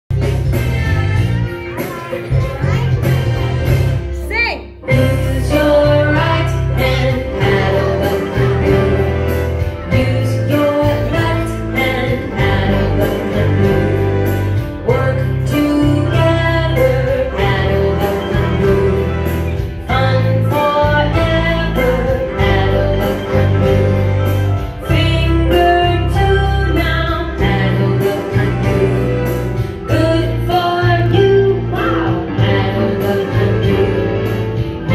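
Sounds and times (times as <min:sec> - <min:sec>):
keyboards and piano playing tune: 0:00.1 - 0:34.9
steady bass line: 0:00.1 - 0:34.9
person singing along: 0:04.8 - 0:34.9.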